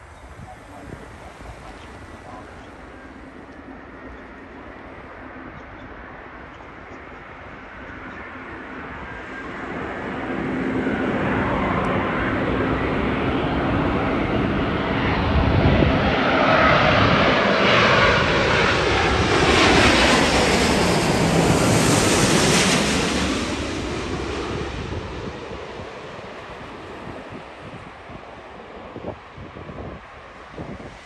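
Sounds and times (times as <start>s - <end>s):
airliner flying low overhead: 0.0s - 31.0s.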